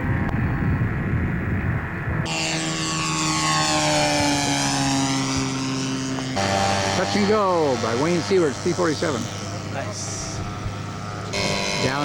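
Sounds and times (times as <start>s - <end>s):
model plane engine flyby: 2.0s - 12.0s.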